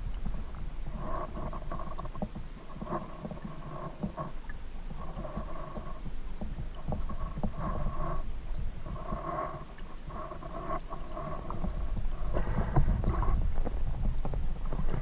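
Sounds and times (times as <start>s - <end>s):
muffled underwater rumble: 0.0s - 15.0s
underwater clicks and ticks: 0.0s - 15.0s.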